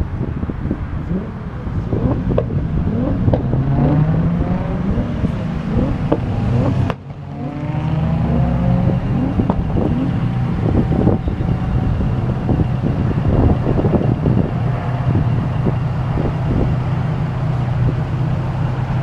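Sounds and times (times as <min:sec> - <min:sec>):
car engines accelerating: 0:00.0 - 0:19.0.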